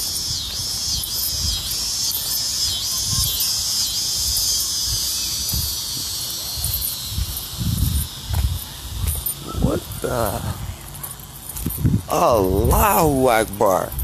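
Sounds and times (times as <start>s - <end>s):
cicadas buzzing: 0.0s - 14.0s.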